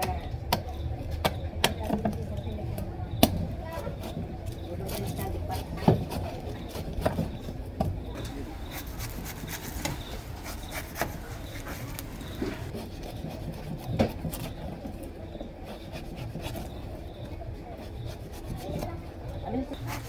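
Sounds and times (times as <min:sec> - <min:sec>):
blade scraping coconut shell: 0:00.0 - 0:20.0.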